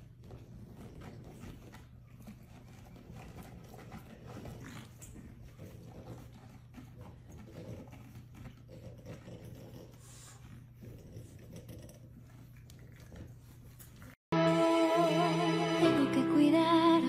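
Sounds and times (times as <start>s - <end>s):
puppies play-wrestling: 0.0s - 14.2s.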